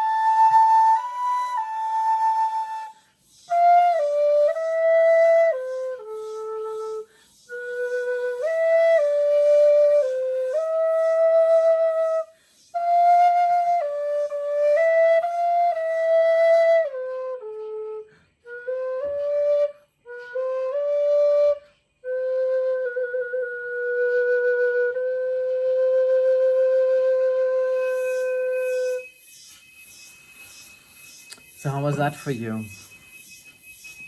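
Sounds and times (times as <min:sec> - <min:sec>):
solo flute melody: 0:00.0 - 0:34.0.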